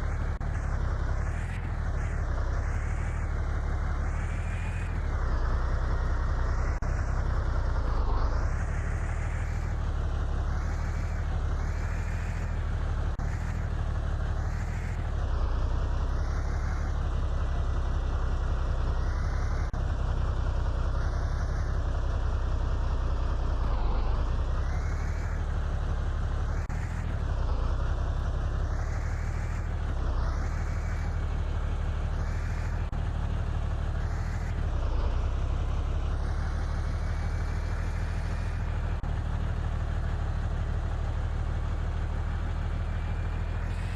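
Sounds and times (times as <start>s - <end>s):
radio-controlled truck engine whine: 0.0s - 43.9s.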